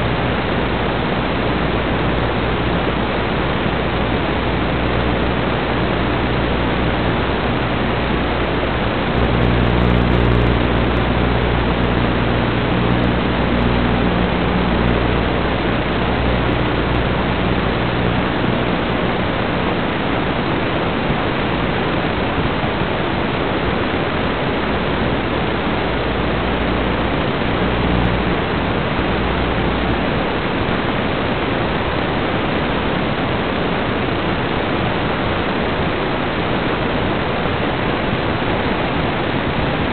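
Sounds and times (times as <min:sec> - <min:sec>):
low steady hum: 0:00.0 - 0:39.9
static hiss: 0:00.0 - 0:39.9.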